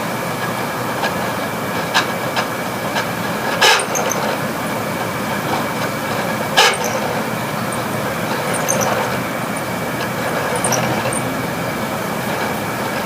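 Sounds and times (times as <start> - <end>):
air conditioner running: 0.0 - 13.0
high whine: 2.1 - 13.0.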